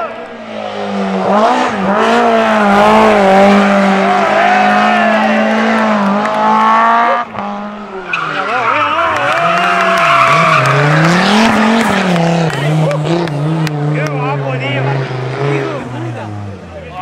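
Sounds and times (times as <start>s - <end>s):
rally car engine revving: 0.0s - 17.0s
tyres skidding: 0.0s - 17.0s.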